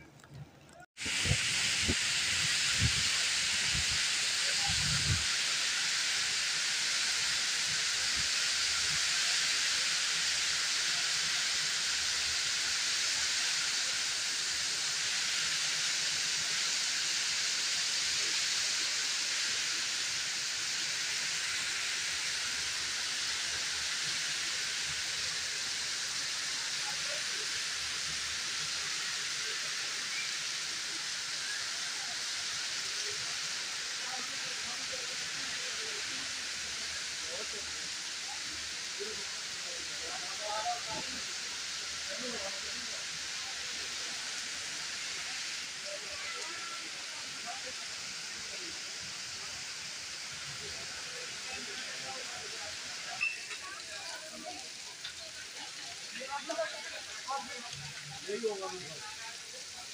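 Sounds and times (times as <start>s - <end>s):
heavy rain pouring: 0.2s - 59.9s.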